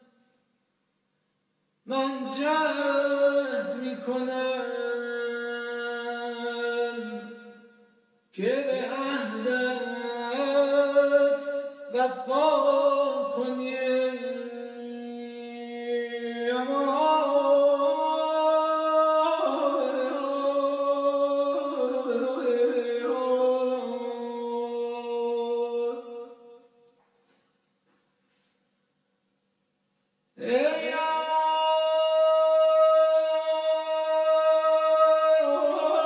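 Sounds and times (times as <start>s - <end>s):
man singing unaccompanied: 1.8s - 7.7s, 8.4s - 26.7s, 30.4s - 36.0s.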